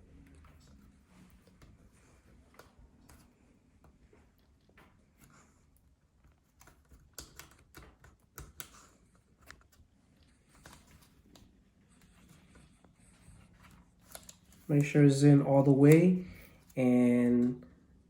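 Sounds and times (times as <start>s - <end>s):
fingers and tool clicking inside laptop: 0.0s - 15.1s.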